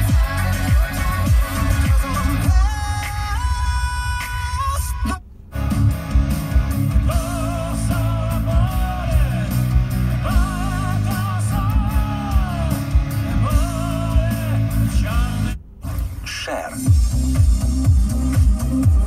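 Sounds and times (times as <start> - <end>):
rock song on car radio: 0.0 - 19.0.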